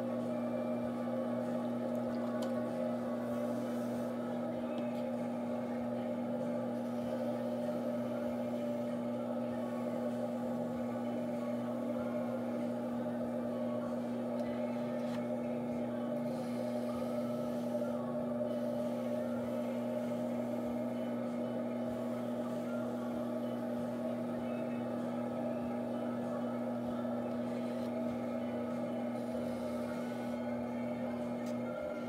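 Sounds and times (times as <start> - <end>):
potter's wheel motor hum: 0.0 - 32.0.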